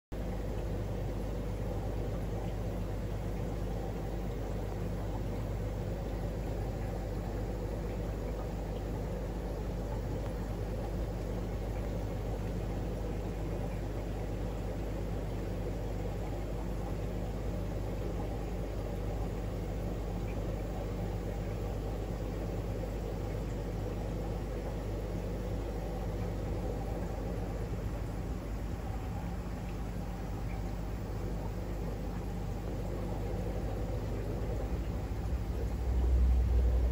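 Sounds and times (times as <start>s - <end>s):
mechanical hum and rumble: 0.0s - 36.9s.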